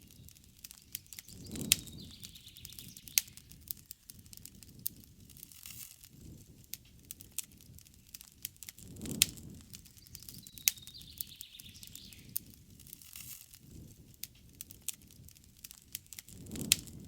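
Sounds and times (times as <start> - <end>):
campfire crackling and popping: 0.0 - 17.0
flames fluttering: 0.0 - 17.0.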